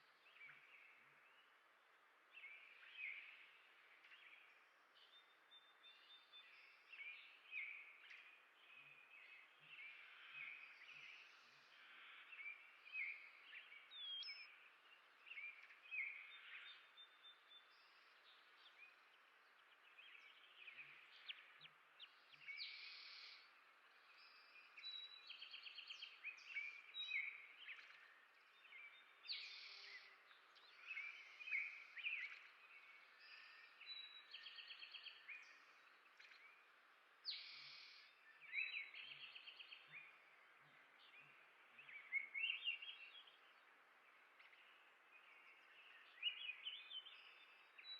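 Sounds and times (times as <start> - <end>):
faint outdoor hiss: 0.0 - 47.9
songbirds chirping and singing: 0.0 - 47.9.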